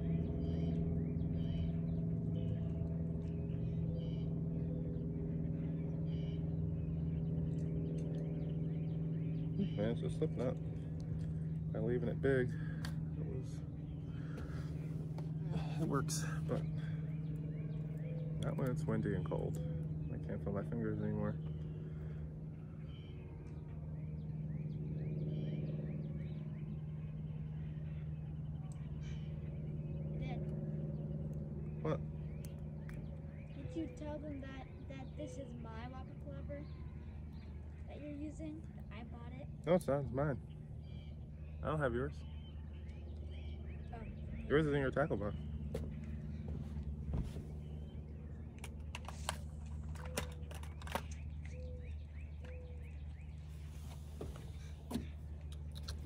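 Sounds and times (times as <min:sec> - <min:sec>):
low engine-like hum: 0:00.0 - 0:56.0.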